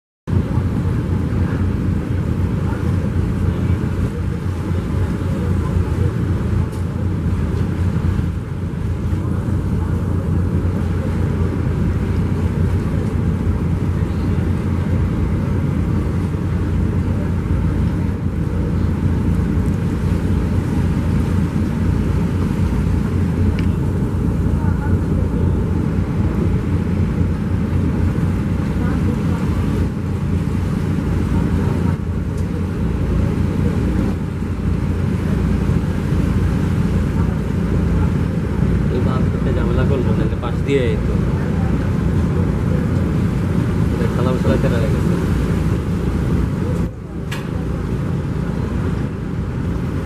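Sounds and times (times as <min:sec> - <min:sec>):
marine diesel engines throbbing: 0:00.3 - 0:50.0.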